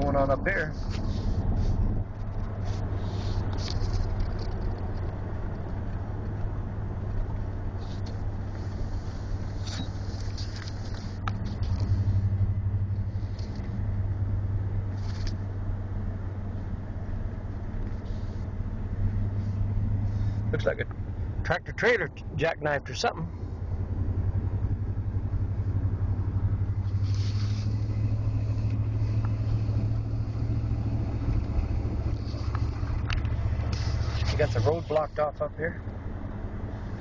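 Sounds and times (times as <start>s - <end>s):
road rumble: 0.0s - 37.0s
vehicle engine hum: 0.0s - 37.0s.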